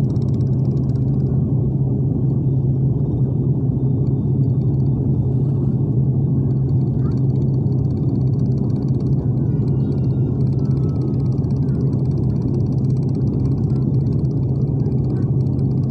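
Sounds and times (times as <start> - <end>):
airliner cabin engine drone: 0.0 - 15.9.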